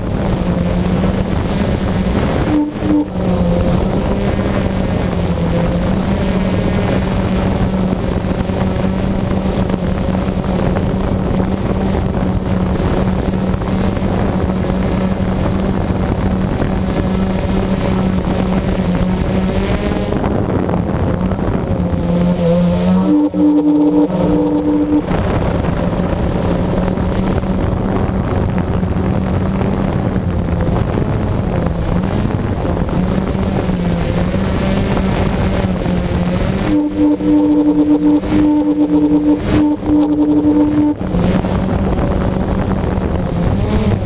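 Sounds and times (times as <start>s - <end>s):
quadcopter motors buzzing: 0.0s - 44.0s
wind on microphone: 0.0s - 44.0s.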